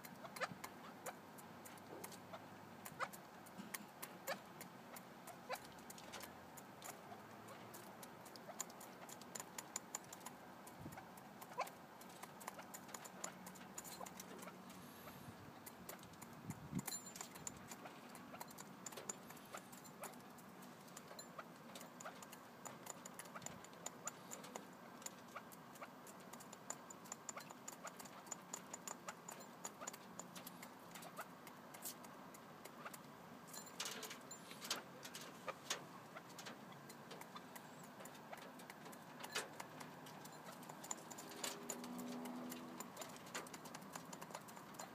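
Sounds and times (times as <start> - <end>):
birds pecking pellets in a bowl: 0.0 - 44.9.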